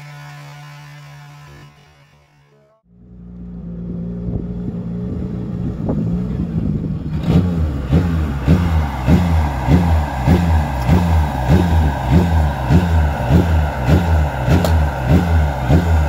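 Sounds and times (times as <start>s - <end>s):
race car engine idling: 2.9s - 16.0s.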